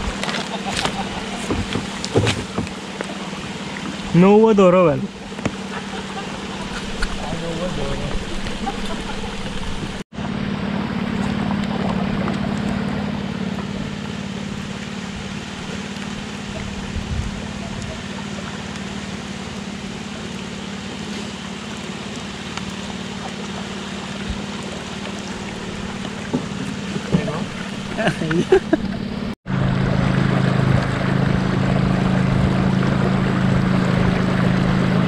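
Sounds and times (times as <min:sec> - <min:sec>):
boat motor humming: 0:00.0 - 0:35.0
water rushing along hulls: 0:00.0 - 0:35.0.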